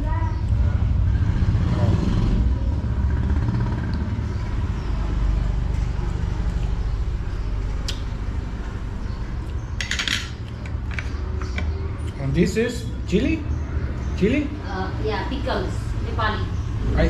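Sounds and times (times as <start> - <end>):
engine running nearby: 0.0 - 17.0
traffic rumble: 0.0 - 17.0.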